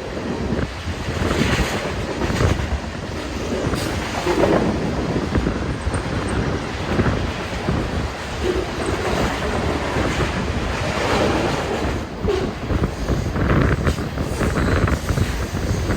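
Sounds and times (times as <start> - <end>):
passing train rumble: 0.0 - 15.9
wind buffeting microphone: 0.0 - 15.9.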